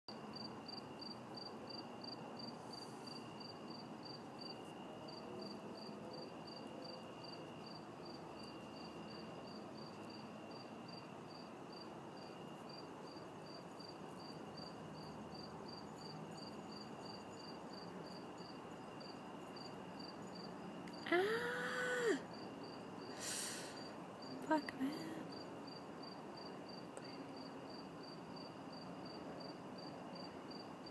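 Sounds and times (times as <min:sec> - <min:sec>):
crickets chirping: 0:00.1 - 0:30.9
low insect trill: 0:00.1 - 0:30.9.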